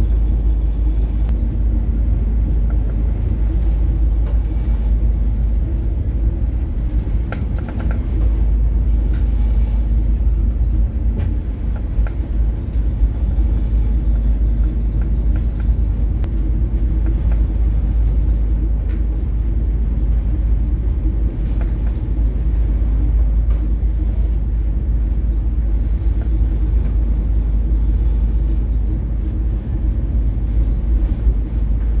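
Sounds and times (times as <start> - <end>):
ship engine and hull rumble: 0.0 - 32.0.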